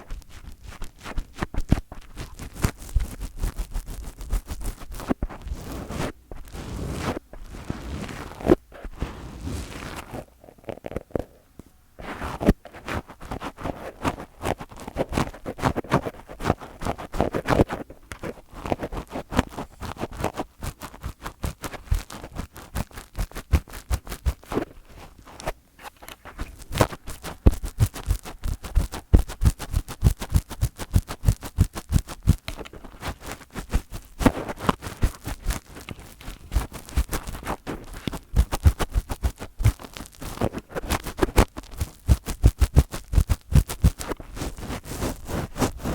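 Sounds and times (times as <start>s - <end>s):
fingers rubbing and tapping microphone: 0.0s - 45.9s.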